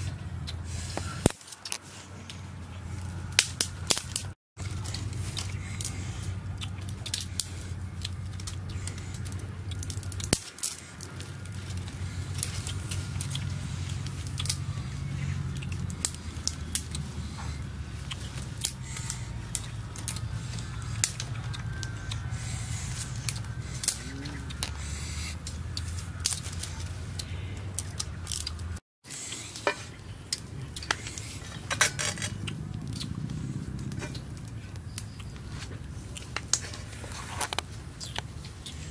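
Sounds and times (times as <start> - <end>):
steady low hum: 0.0 - 38.9
sticks clicking and snapping: 0.4 - 2.4, 3.0 - 38.9.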